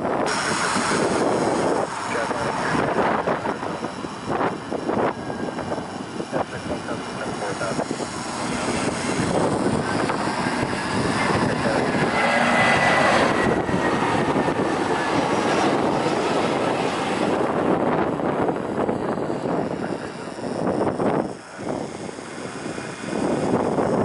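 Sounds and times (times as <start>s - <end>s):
faint high whine: 0.0s - 24.0s
jet engines passing close: 0.0s - 24.0s.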